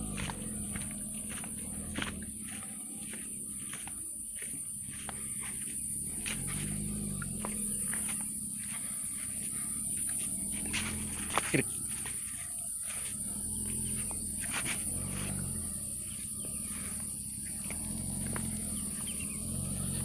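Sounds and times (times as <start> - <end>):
truck engine running at low revs: 0.0 - 20.0.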